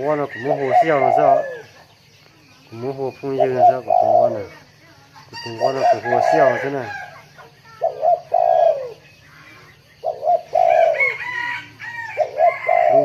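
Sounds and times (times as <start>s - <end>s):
dove cooing: 0.0s - 2.0s, 2.6s - 13.0s.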